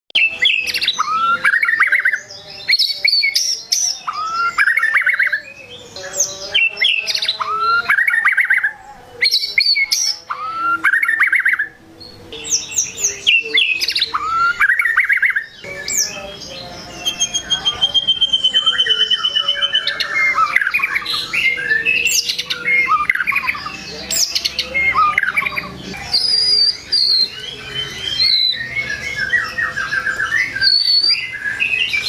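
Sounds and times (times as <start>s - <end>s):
bird singing whistles and trills: 0.1s - 32.0s.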